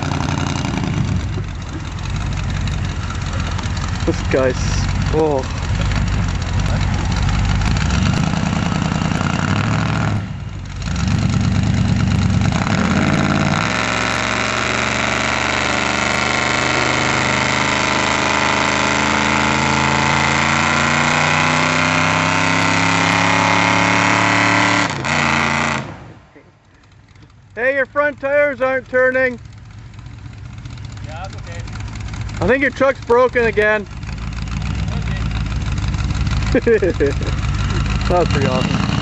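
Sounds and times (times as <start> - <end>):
engine revving: 0.0 - 26.2, 26.8 - 39.0
tires spinning: 0.0 - 39.0.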